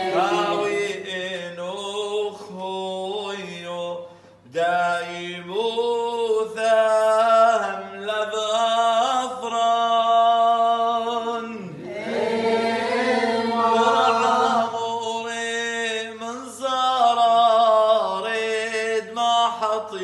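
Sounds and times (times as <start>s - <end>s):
man chanting prayer: 0.0s - 11.8s, 13.8s - 20.0s.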